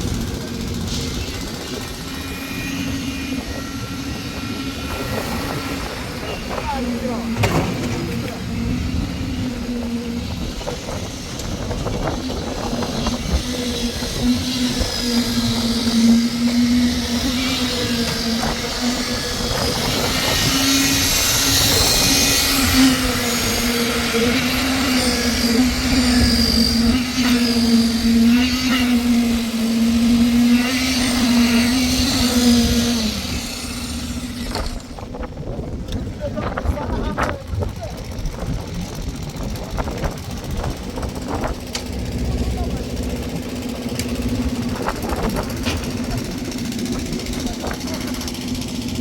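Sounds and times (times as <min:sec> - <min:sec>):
engine humming: 0:00.0 - 0:49.0
motor running and winding down: 0:00.0 - 0:49.0.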